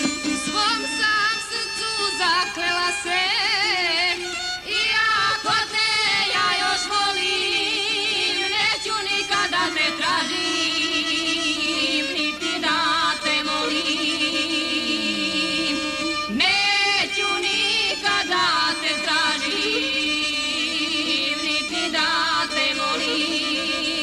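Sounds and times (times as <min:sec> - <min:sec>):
instrumental accompaniment: 0:00.0 - 0:24.0
women singing a folk song: 0:00.0 - 0:24.0.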